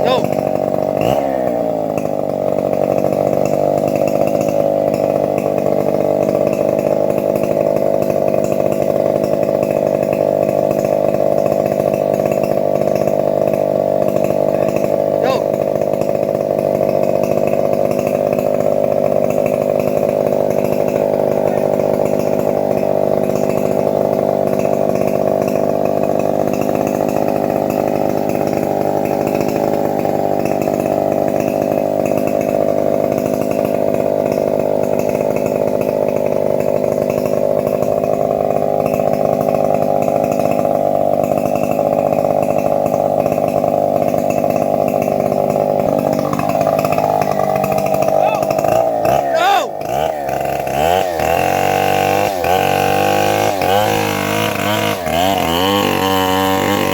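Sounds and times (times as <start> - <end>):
engine saw cutting wood: 0.0 - 56.9.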